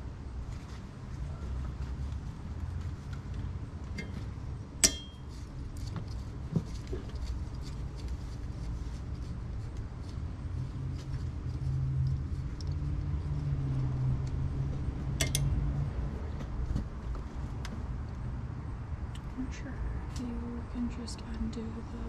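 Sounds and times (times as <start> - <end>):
low engine-like hum: 0.0 - 22.0.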